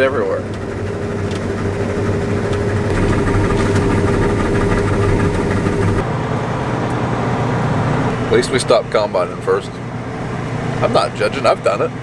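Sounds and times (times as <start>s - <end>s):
vehicle engine rumble: 0.0s - 12.0s
steady hum: 0.6s - 12.0s.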